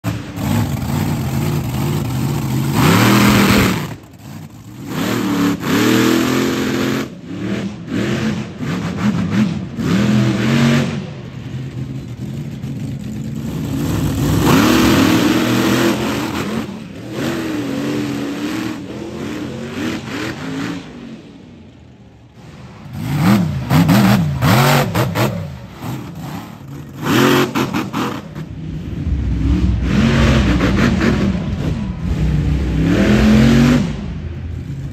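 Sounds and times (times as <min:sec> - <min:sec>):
monster truck engines revving: 0:00.0 - 0:34.9.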